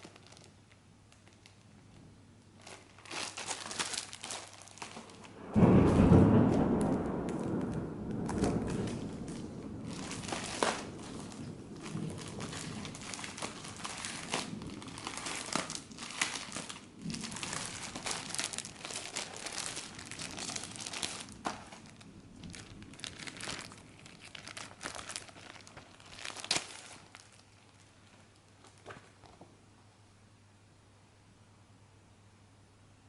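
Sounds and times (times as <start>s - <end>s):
plastic packaging crinkling: 0.0s - 29.5s.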